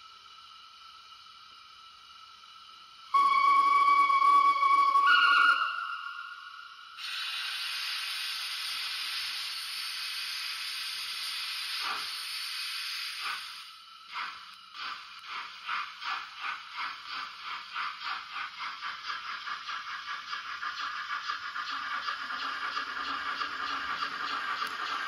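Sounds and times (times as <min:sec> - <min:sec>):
steam locomotive exhaust chuffs: 0:00.0 - 0:25.0
steam hiss: 0:02.6 - 0:25.0.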